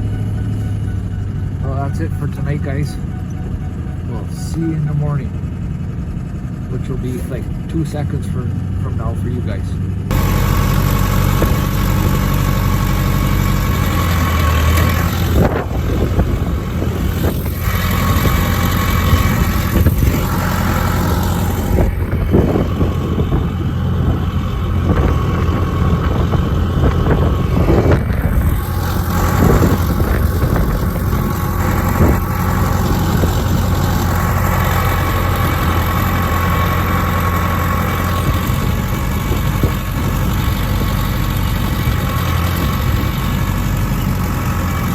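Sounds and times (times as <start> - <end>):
truck engine idling: 0.0 - 44.9.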